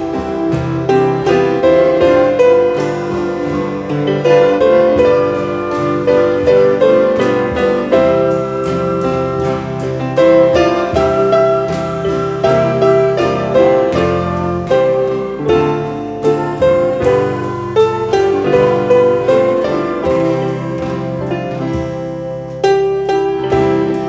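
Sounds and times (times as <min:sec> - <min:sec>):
instrumental piano music: 0:00.0 - 0:24.0.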